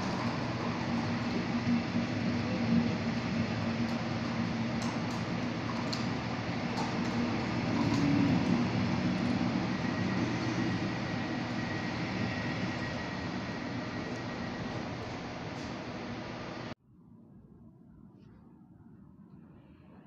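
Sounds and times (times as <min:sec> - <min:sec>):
train wheels rumbling on track: 0:00.0 - 0:16.8.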